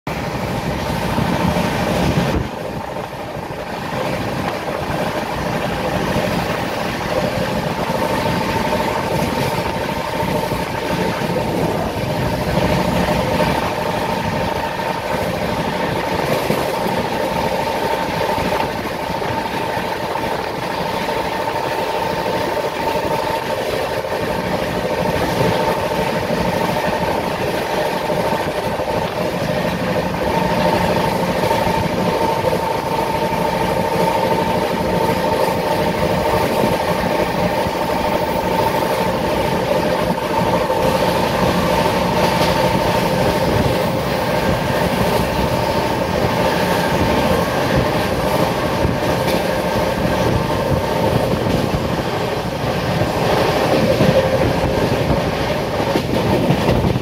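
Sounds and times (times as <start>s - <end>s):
train wheels rushing on rails: 0.1s - 57.0s.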